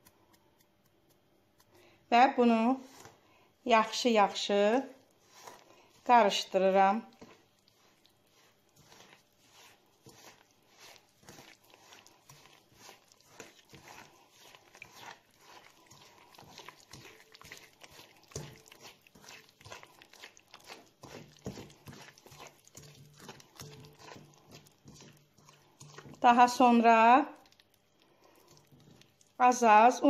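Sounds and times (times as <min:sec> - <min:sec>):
hand squelching wet mixture: 0:00.0 - 0:30.0.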